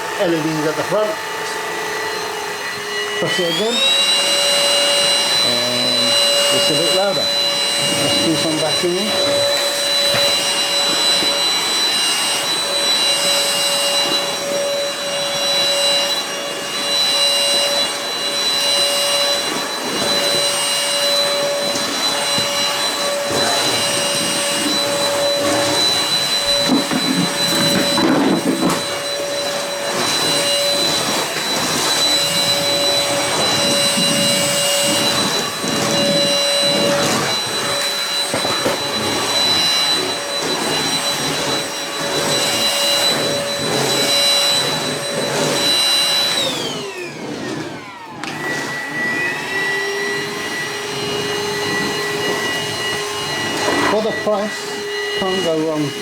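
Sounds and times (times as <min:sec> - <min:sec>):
stick vacuum motor whine: 0:00.0 - 0:56.0.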